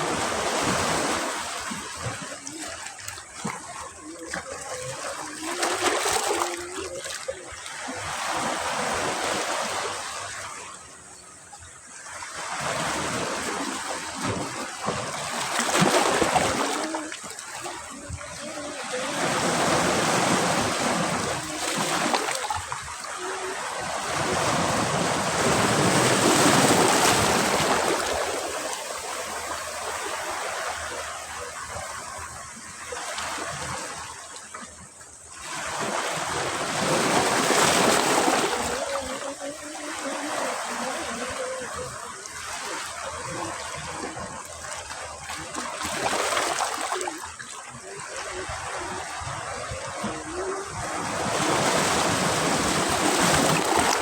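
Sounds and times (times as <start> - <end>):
sea waves breaking on a beach: 0.0 - 54.0.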